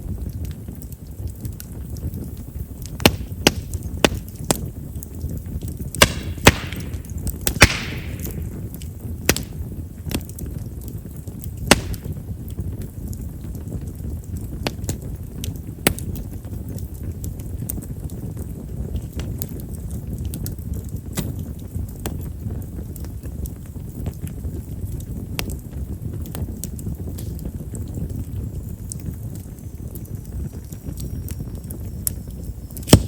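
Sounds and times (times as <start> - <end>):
flame rumbling: 0.0 - 33.0
wood popping and crackling: 0.0 - 33.0.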